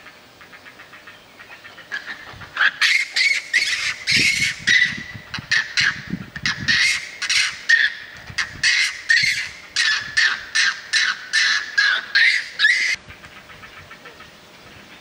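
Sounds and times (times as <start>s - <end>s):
animal harsh calls: 0.4s - 15.0s.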